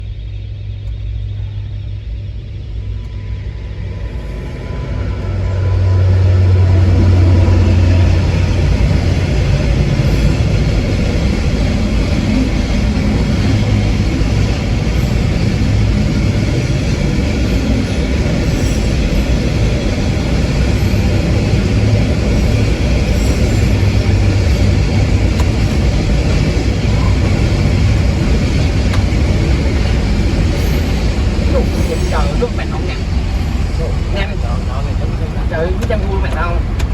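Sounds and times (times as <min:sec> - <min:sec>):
train running on track: 0:00.0 - 0:36.9.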